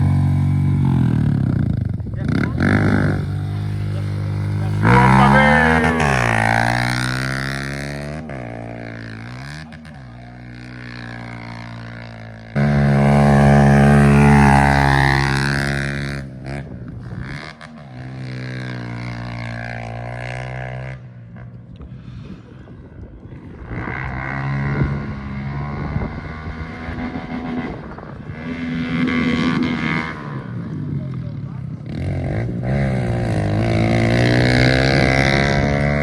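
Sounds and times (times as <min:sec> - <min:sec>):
motorbike engine revving: 0:00.0 - 0:21.6, 0:23.6 - 0:36.0.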